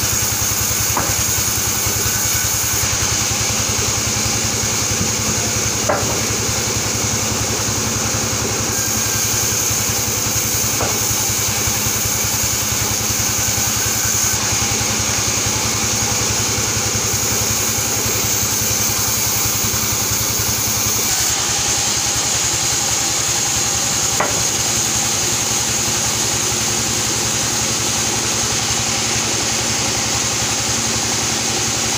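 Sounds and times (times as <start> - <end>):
band saw drone and whine: 0.0 - 31.9.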